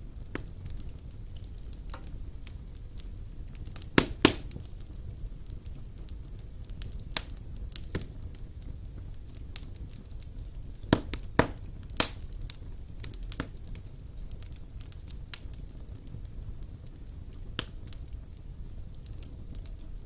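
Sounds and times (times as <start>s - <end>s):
crackles and pops of burning logs: 0.0s - 20.0s
low rumble of flame: 0.0s - 20.0s.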